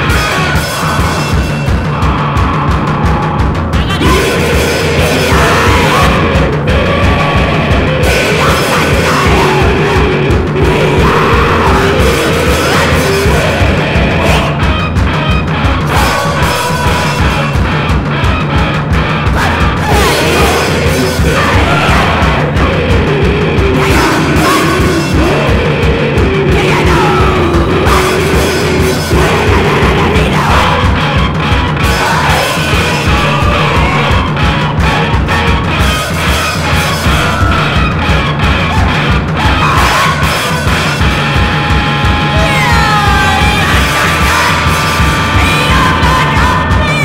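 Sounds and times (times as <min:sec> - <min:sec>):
drums: 0:00.0 - 0:47.0
loud guitars: 0:00.0 - 0:47.0.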